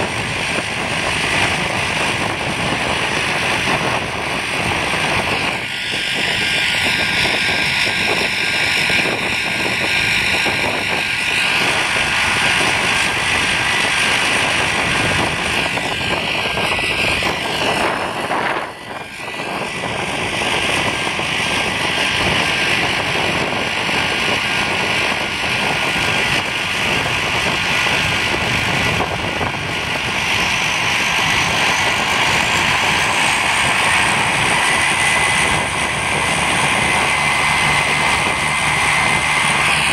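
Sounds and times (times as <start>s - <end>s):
turboprop engines whining: 0.0s - 39.9s.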